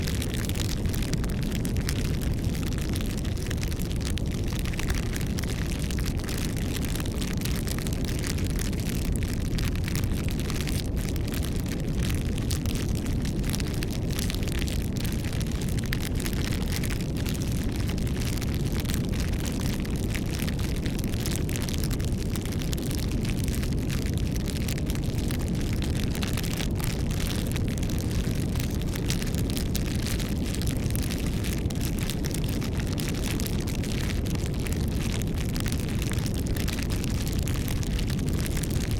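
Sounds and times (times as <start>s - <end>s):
fire rumbling: 0.0s - 38.9s
wood crackling and popping: 0.0s - 38.9s.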